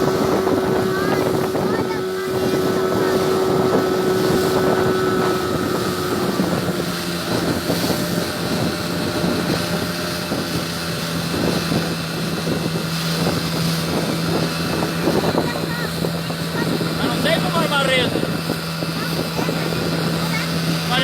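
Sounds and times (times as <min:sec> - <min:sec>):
motorboat engine running: 0:00.0 - 0:21.0
wind buffeting microphone: 0:00.0 - 0:21.0.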